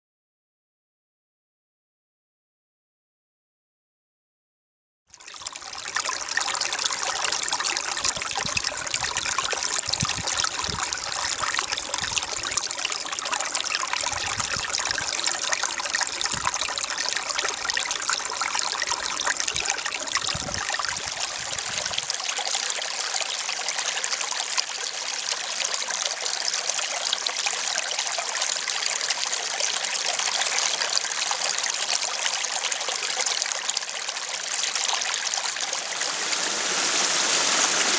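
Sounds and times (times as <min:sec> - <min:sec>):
stream trickling over rocks: 0:05.1 - 0:37.9.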